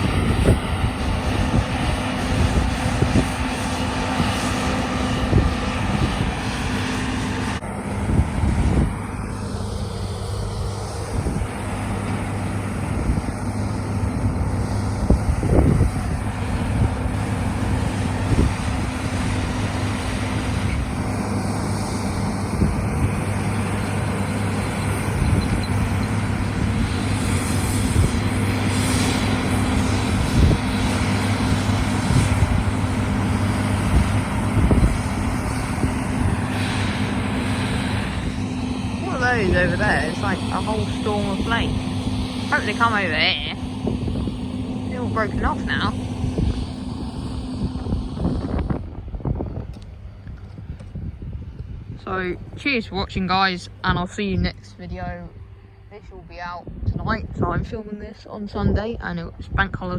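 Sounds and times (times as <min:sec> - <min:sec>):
combine harvester humming: 0:00.0 - 0:59.9
wind buffeting microphone: 0:00.0 - 0:59.9.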